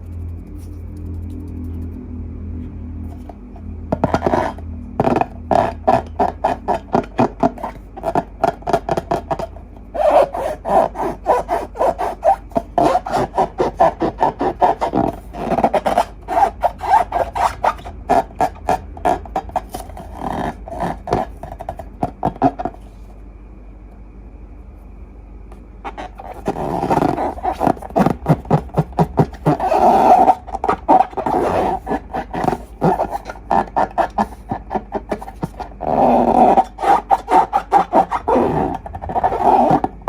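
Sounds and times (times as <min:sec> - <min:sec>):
squeaky rubbing of balloons: 0:03.1 - 0:23.0, 0:25.8 - 0:40.0.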